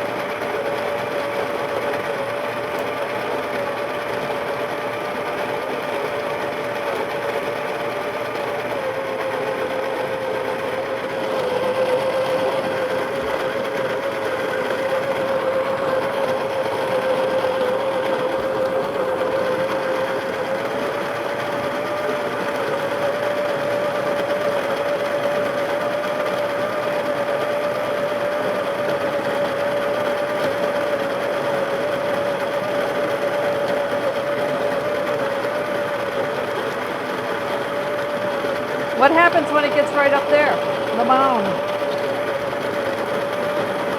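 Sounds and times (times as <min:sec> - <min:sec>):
coffee grinder motor whine: 0:00.0 - 0:43.9.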